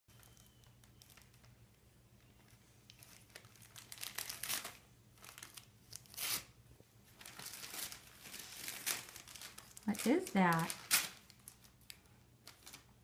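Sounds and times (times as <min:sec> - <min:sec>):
wrapping paper crinkling and tearing: 0:00.1 - 0:01.6, 0:02.2 - 0:13.0.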